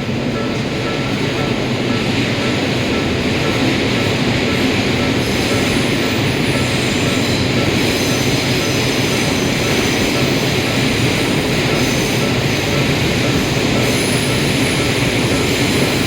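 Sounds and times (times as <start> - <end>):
crossing warning bell: 0.0 - 16.0
train passing rumble: 0.0 - 16.0.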